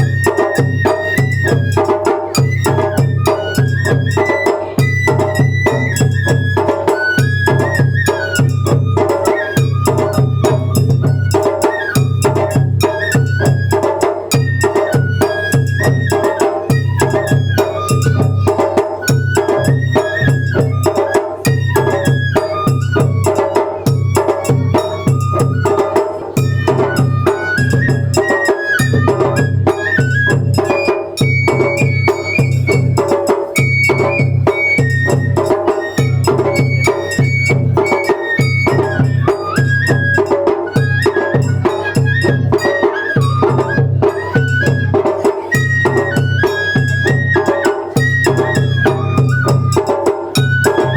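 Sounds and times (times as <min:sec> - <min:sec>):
bamboo flute melody: 0:00.0 - 0:50.9
rapid taiko drum beats: 0:00.0 - 0:50.9.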